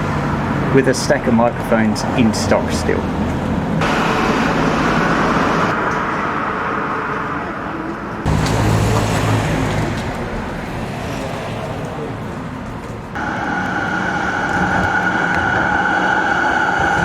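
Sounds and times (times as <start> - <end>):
low engine hum: 0.0 - 17.0
road traffic passing: 0.0 - 17.0.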